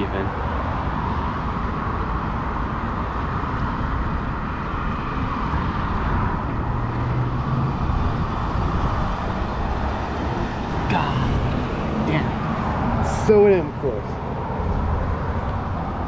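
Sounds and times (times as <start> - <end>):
wind noise on microphone: 0.0 - 13.0
passing traffic: 0.0 - 16.0.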